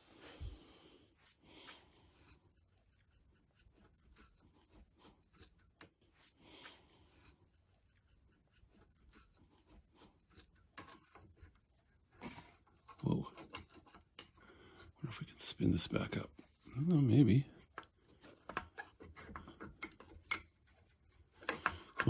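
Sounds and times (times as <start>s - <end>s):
faint rubbing and scraping: 0.0s - 22.0s.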